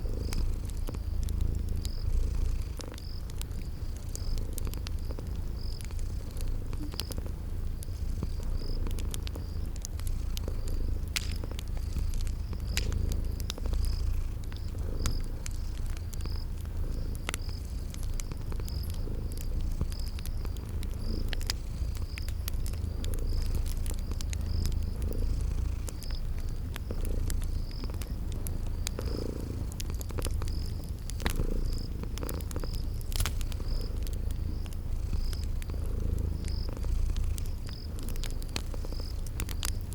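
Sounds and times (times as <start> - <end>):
cat purring: 0.0 - 39.9
cricket chirping: 0.0 - 39.9
wood fire crackling: 0.0 - 39.9.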